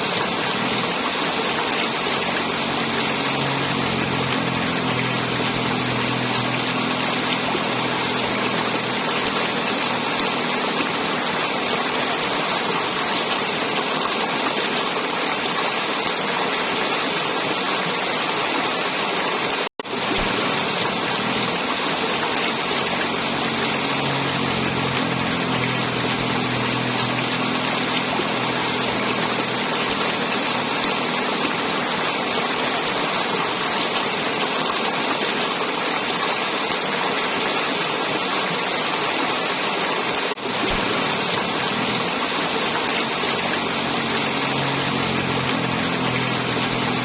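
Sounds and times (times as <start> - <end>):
river water flowing: 0.0 - 47.0.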